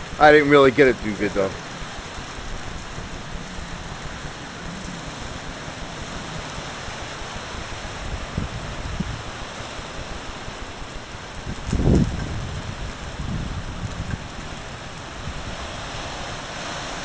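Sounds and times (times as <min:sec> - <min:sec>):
rain hissing: 0:00.0 - 0:17.0
wind rumbling on microphone: 0:00.0 - 0:17.0.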